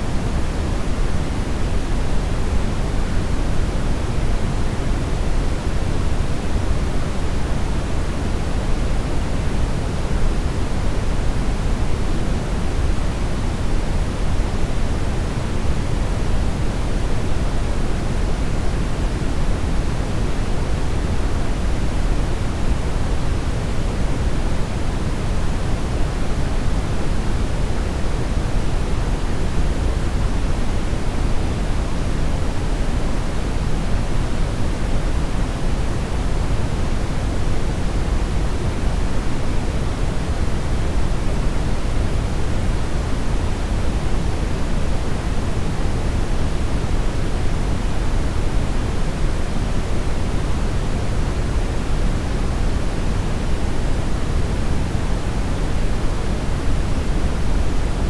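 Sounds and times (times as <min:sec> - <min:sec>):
brown noise rumbling hiss: 0:00.0 - 0:58.0.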